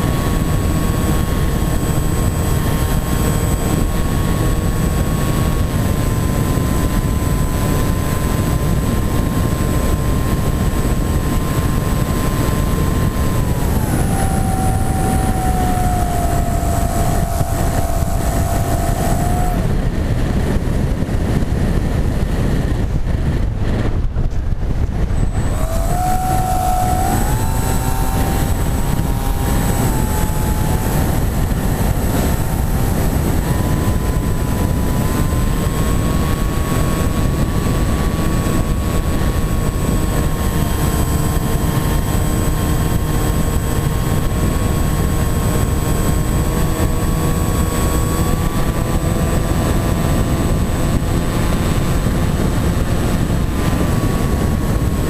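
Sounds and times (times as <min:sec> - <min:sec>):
electric motor and propeller whining: 0:00.0 - 0:55.0
wind rumble: 0:00.0 - 0:55.0.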